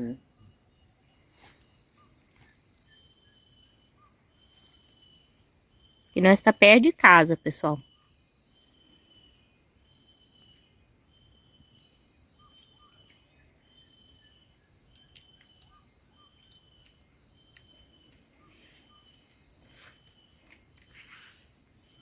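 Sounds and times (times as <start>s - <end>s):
insects trilling: 0.0s - 22.0s
lower insect call: 0.0s - 22.0s.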